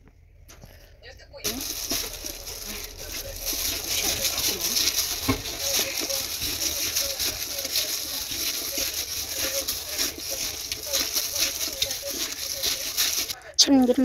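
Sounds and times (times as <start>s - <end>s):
gloved hand squishing wet spinach: 1.4s - 14.0s.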